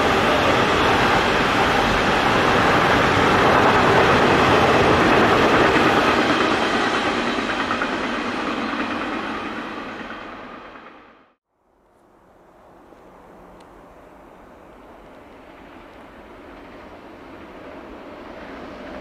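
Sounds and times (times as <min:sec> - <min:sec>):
freight train wheels rolling on rails: 0:00.0 - 0:11.4, 0:12.5 - 0:19.0.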